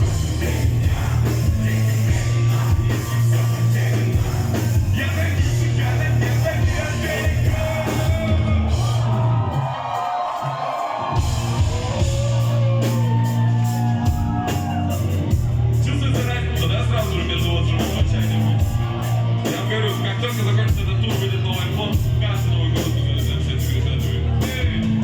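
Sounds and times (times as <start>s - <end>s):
hip-hop music over sound system: 0.0s - 25.0s.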